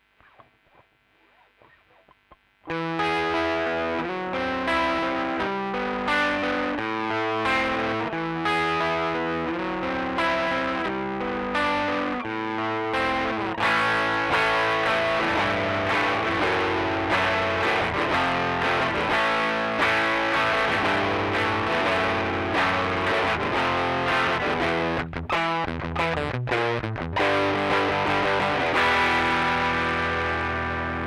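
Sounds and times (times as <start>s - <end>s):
overdriven electric guitar: 0.0s - 31.0s.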